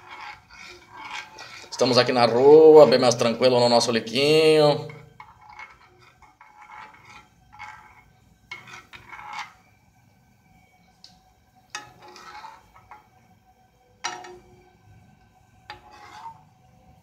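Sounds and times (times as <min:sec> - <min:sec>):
metal spoon scraping a pan: 0:00.0 - 0:09.8, 0:11.6 - 0:13.4, 0:14.0 - 0:17.0.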